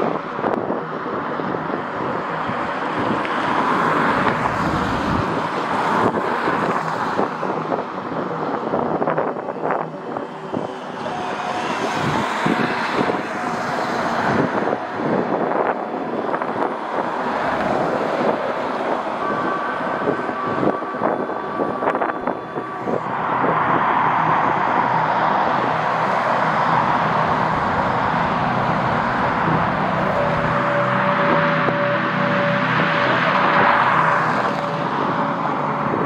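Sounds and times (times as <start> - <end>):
jet engine rushing and whining: 0.0 - 36.0.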